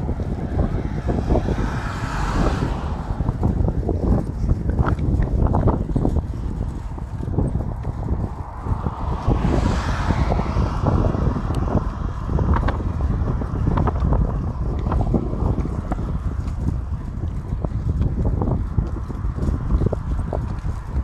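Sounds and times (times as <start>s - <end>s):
bicycle rattling and knocking: 0.0s - 9.2s, 11.7s - 21.0s
wind buffeting microphone: 0.0s - 21.0s.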